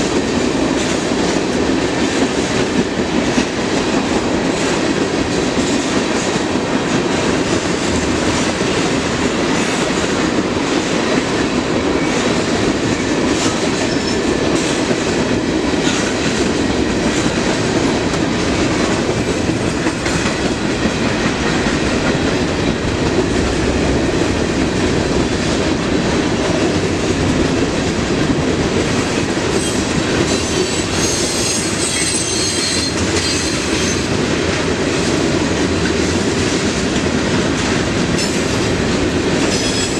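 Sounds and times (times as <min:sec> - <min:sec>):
train cars rumbling past: 0:00.0 - 0:39.9.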